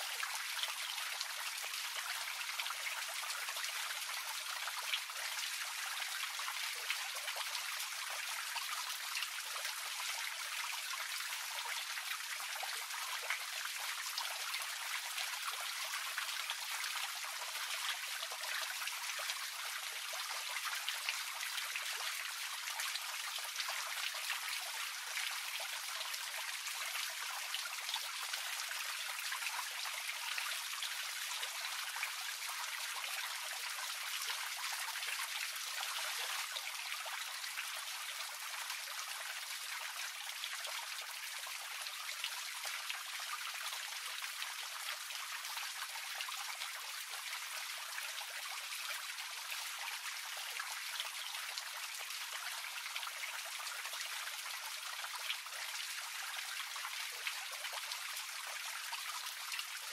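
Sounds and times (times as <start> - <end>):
fountain water splashing into pond: 0.0 - 59.9.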